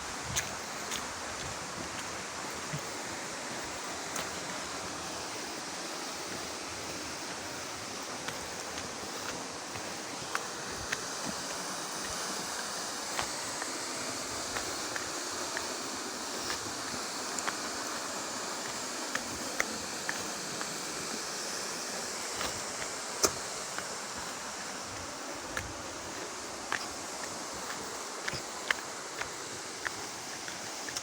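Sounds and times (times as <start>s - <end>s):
footsteps on trail: 0.0s - 31.0s
water rushing: 0.0s - 31.0s.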